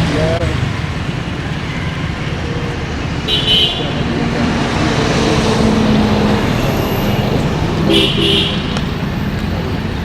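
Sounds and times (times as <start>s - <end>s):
traffic background noise: 0.0s - 10.0s.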